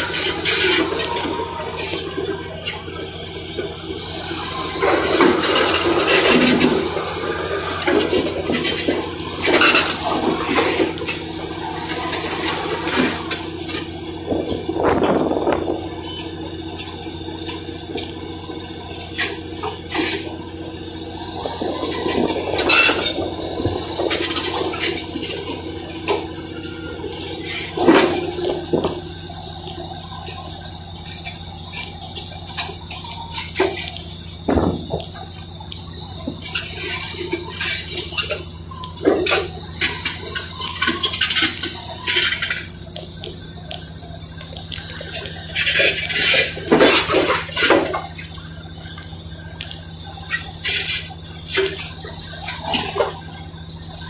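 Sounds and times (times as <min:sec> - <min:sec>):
bulldozer diesel engine running: 0:00.0 - 0:54.0
concrete rubble crunching: 0:00.0 - 0:54.0
steel tracks clanking: 0:00.0 - 0:54.0.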